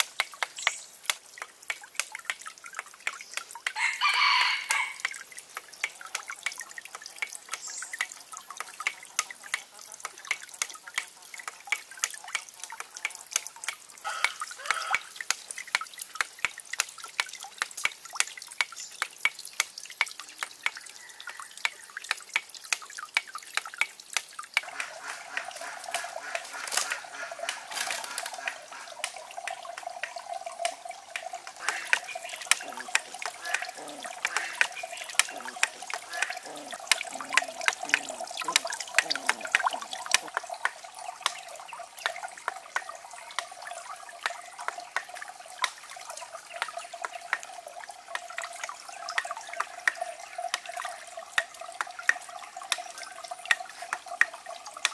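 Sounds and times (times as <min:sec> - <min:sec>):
water trickling into a pond: 0:00.0 - 0:54.9.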